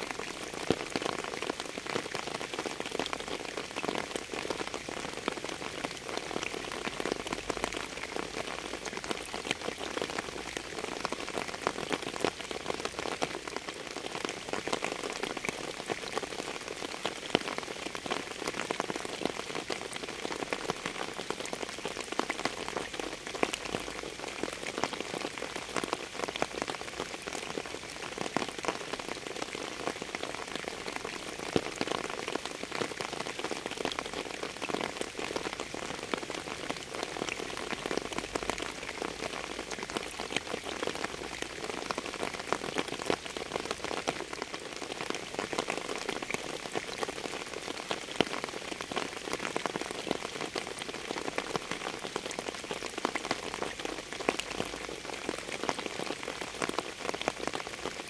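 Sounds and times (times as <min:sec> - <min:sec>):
rain drops ticking: 0:00.0 - 0:58.0.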